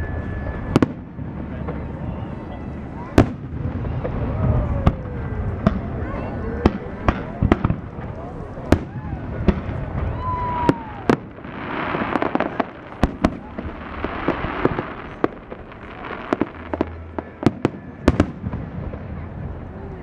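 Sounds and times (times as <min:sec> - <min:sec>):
firework whistle: 0:00.0 - 0:18.7
fireworks bangs: 0:00.0 - 0:20.0
fireworks crackling: 0:00.0 - 0:20.0.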